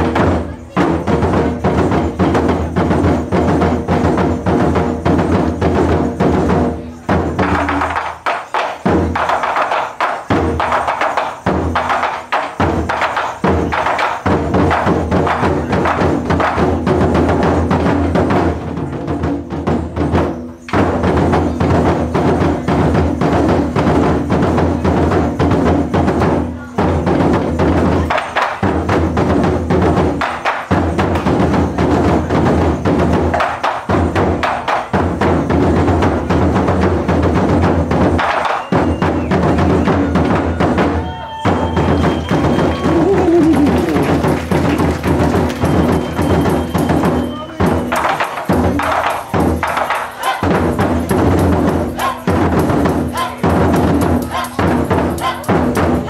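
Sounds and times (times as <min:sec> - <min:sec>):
taiko drum ensemble: 0:00.0 - 0:56.0.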